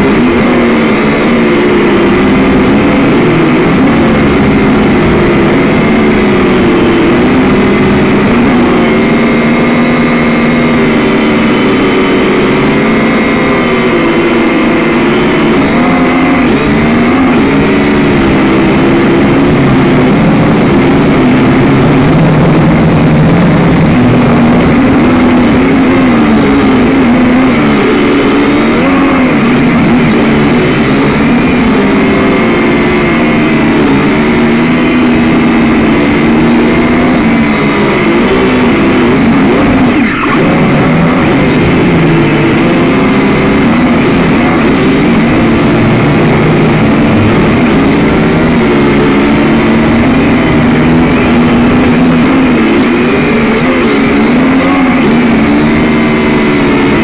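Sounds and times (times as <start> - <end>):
drone motors buzzing: 0.0 - 57.0.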